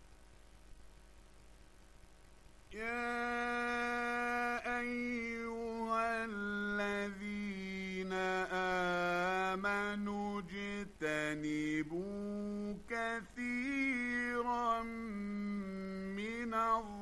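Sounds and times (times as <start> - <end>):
faint hiss: 0.0 - 17.0
man chanting melodically: 2.7 - 17.0.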